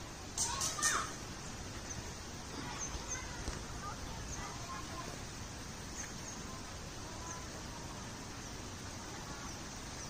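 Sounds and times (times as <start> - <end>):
outdoor rumble with hiss: 0.0 - 10.0.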